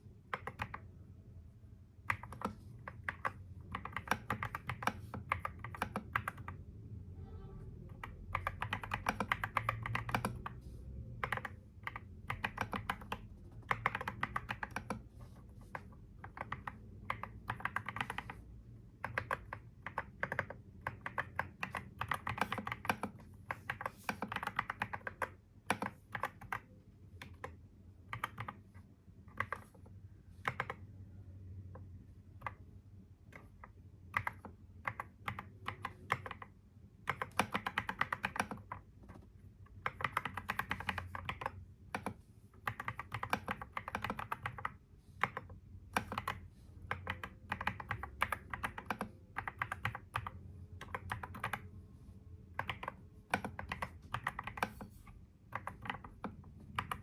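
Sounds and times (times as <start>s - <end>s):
low steady hum: 0.0s - 57.0s
computer keyboard typing: 0.2s - 0.9s, 2.0s - 6.7s, 7.9s - 31.0s, 31.7s - 32.6s, 33.3s - 51.8s, 52.5s - 57.0s.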